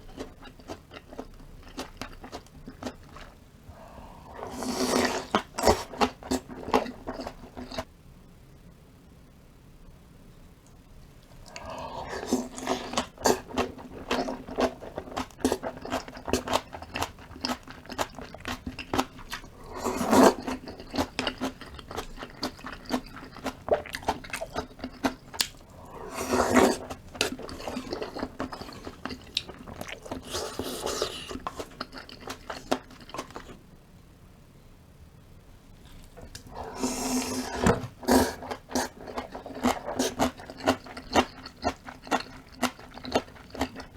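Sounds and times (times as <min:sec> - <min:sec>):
crunchy chewing: 0:00.0 - 0:07.9, 0:11.2 - 0:33.6, 0:35.8 - 0:43.9.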